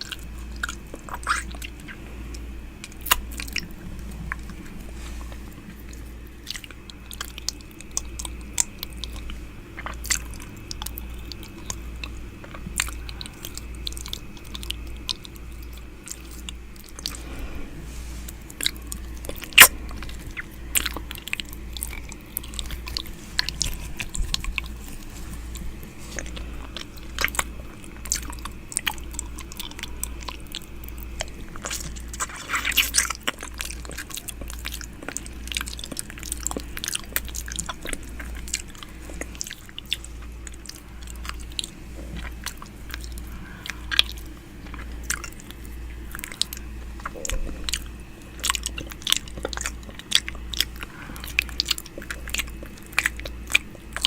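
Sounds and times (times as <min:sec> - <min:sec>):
low pulsing hum: 0:00.0 - 0:54.0.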